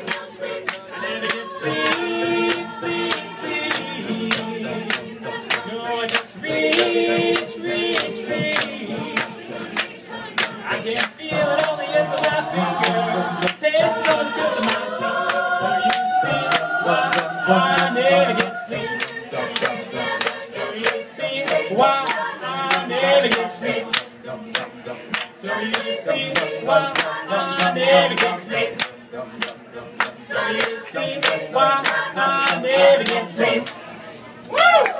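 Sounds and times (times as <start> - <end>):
handclaps: 0.0 - 33.8
a cappella group singing: 0.0 - 34.0.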